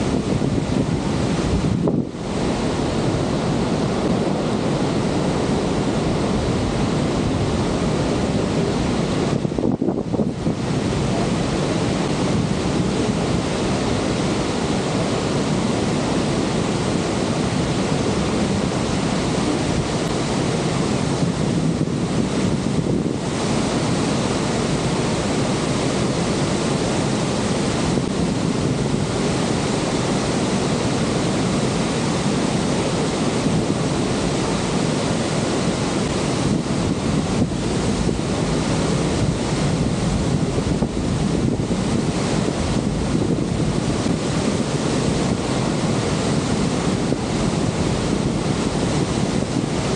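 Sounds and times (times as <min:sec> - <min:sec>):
waterfall rushing: 0:00.0 - 0:49.9
wind noise on microphone: 0:00.0 - 0:49.9.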